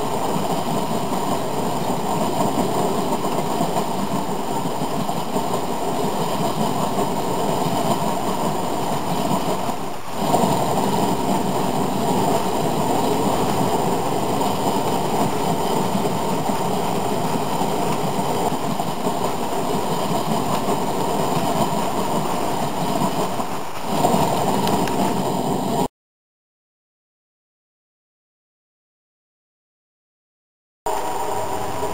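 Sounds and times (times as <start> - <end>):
model train cars rolling: 0.0 - 25.9, 30.9 - 31.9.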